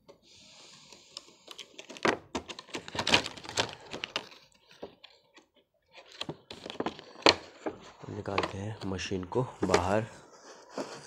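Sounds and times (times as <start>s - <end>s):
plastic box clicking and crinkling: 1.1s - 10.1s.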